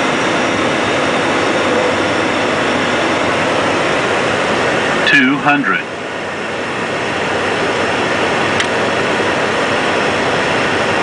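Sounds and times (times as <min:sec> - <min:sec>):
airflow and engine rush: 0:00.0 - 0:11.0.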